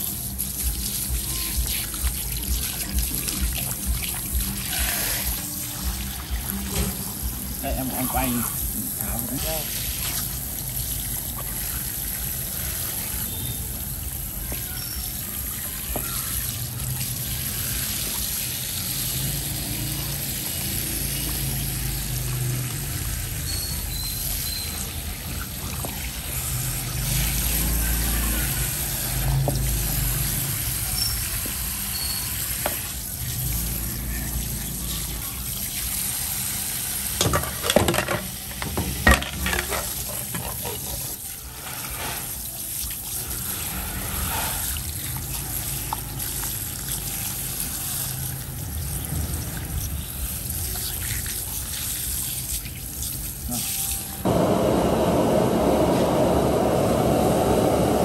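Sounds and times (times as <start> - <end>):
tap water spraying: 0.0 - 54.2.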